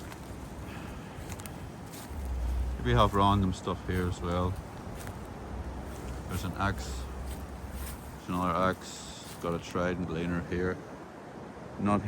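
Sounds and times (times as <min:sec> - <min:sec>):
outdoor wind noise: 0:00.0 - 0:12.0.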